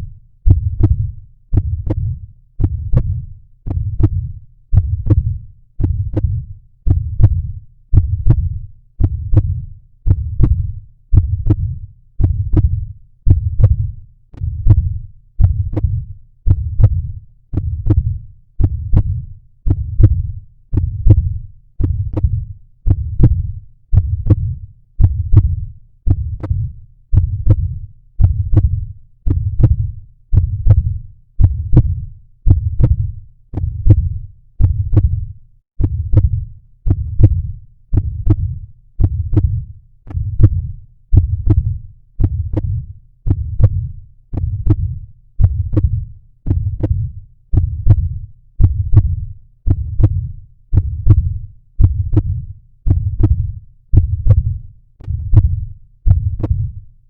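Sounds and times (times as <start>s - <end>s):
low thumping heartbeats: 0.0s - 56.9s.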